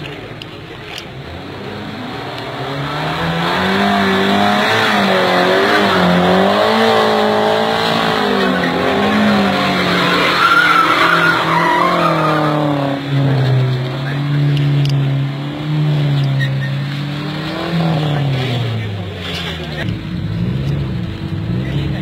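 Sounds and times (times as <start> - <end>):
car engine revving: 0.0 - 22.0
tyres skidding and squealing: 0.0 - 22.0.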